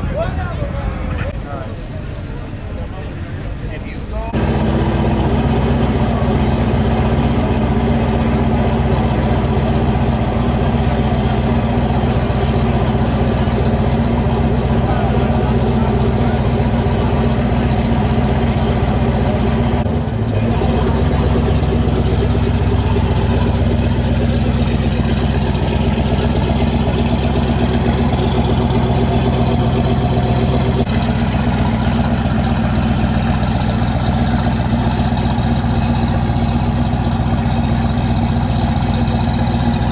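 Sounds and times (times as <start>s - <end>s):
car engine idling: 4.3s - 39.9s.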